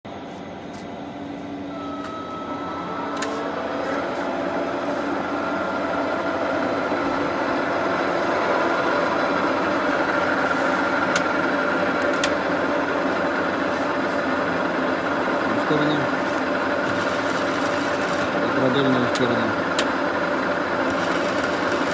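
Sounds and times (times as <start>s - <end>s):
lathe gearing whining: 0.1s - 21.9s.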